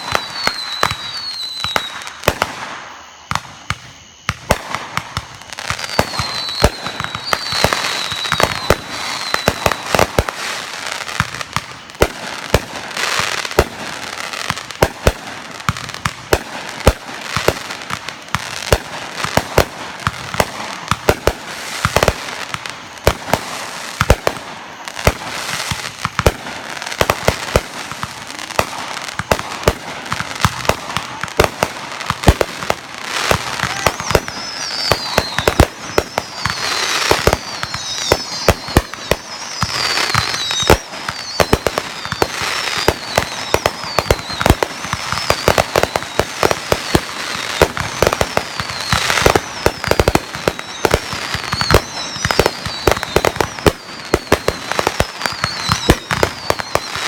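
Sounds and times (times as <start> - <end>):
high falling whistles: 0.0 - 14.8, 15.4 - 57.0
fireworks bangs and pops: 0.0 - 57.0.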